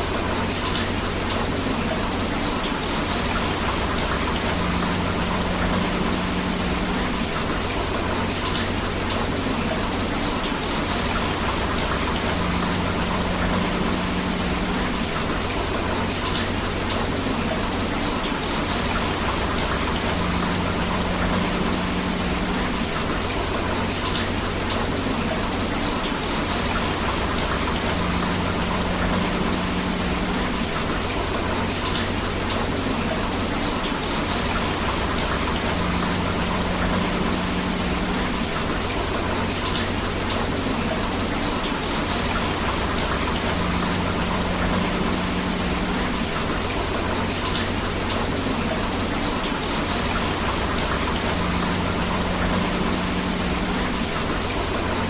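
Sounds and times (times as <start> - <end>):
river water running: 0.0 - 55.0
steady rain: 0.0 - 55.0.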